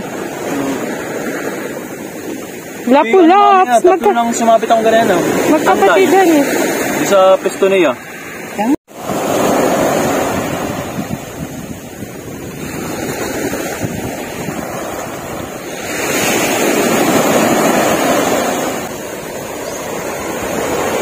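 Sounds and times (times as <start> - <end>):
surf breaking on beach: 0.0 - 21.0.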